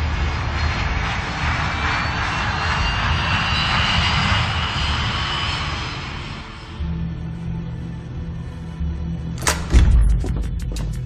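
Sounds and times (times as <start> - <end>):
jet engines at takeoff: 0.0 - 9.6.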